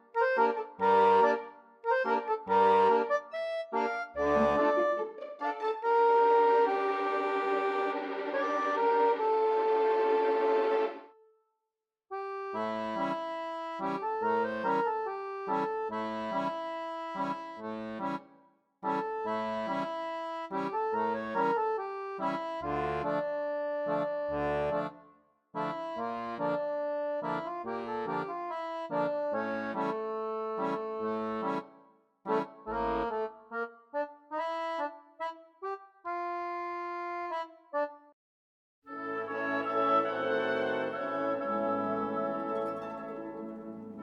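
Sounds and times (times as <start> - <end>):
accordion tune: 0.0 - 11.1, 12.1 - 38.1, 38.9 - 44.0.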